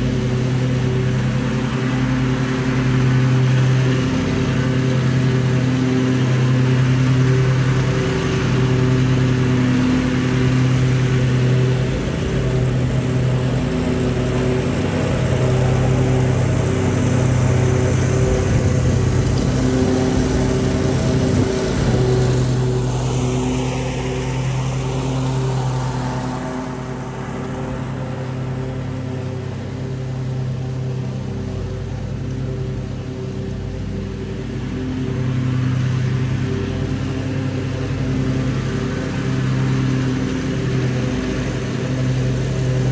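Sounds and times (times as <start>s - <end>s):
lawn mower engine running: 0.0s - 42.9s.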